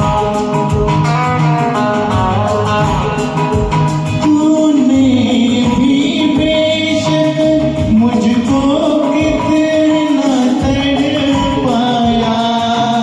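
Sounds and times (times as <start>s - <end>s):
karaoke backing track: 0.0s - 13.0s.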